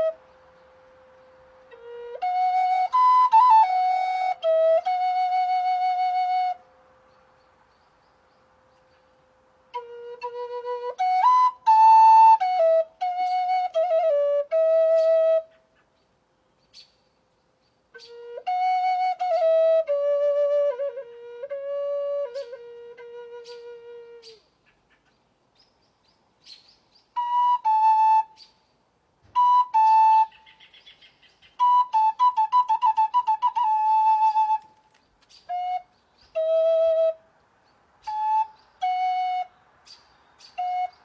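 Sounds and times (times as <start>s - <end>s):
wooden flute melody: 0.0s - 7.4s, 8.6s - 15.9s, 17.9s - 24.6s, 27.1s - 30.9s, 31.5s - 37.4s, 38.0s - 39.7s, 40.4s - 41.0s.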